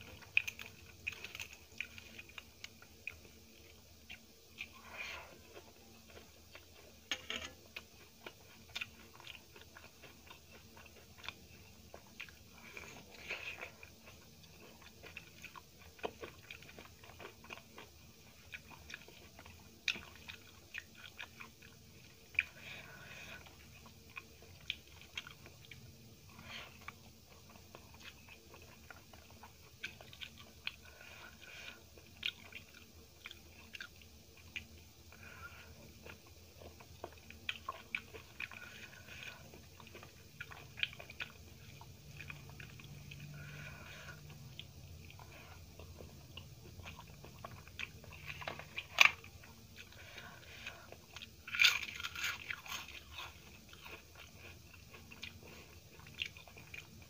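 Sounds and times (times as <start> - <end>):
close-up chewing: 0.0 - 57.0.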